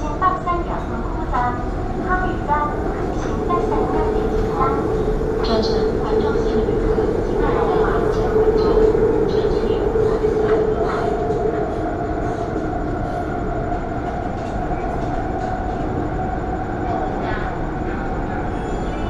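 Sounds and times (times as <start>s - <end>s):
train running rumble: 0.0s - 19.0s
train whine: 0.0s - 19.0s.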